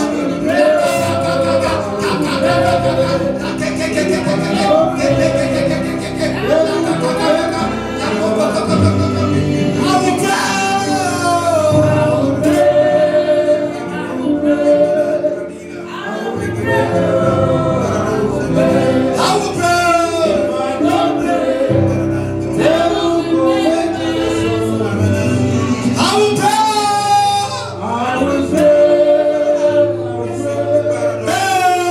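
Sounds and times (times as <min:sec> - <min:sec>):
voices singing gospel music: 0:00.0 - 0:31.9.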